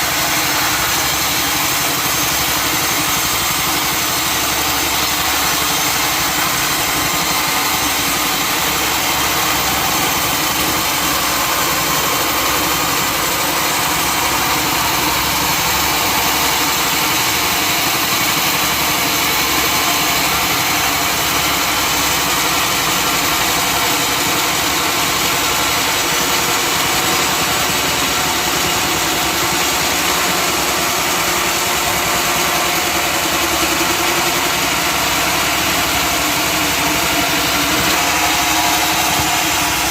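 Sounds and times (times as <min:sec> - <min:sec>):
sawmill engine and saw: 0:00.0 - 0:39.9.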